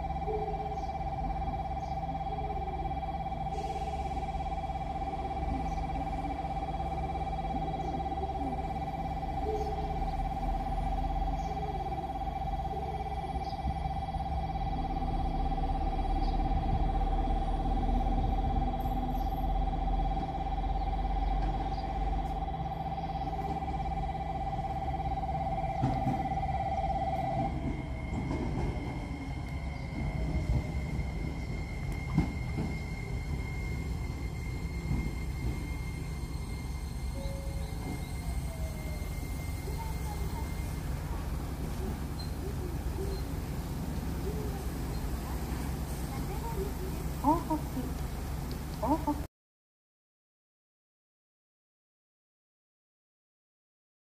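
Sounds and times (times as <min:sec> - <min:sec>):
electric station bell ringing: 0:00.0 - 0:49.0
train rumbling: 0:00.0 - 0:49.3.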